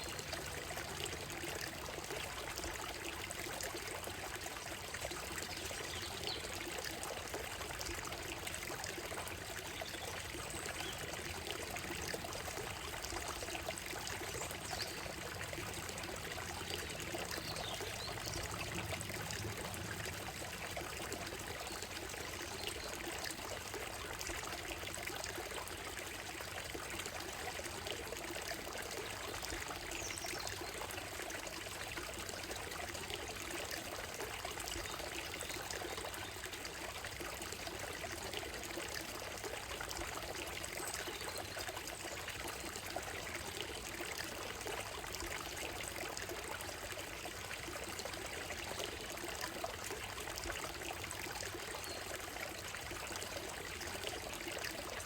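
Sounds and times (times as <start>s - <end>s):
stream running over stones: 0.0s - 55.0s.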